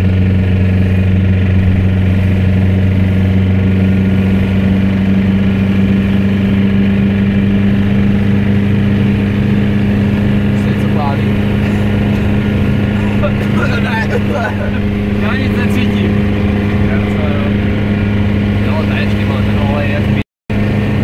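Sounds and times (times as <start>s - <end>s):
car engine droning: 0.0s - 21.0s
road noise: 0.0s - 21.0s.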